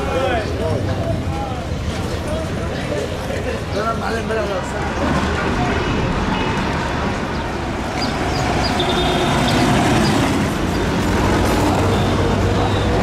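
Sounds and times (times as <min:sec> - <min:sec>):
city traffic: 0:00.0 - 0:13.0
tram running on street track: 0:00.0 - 0:13.0.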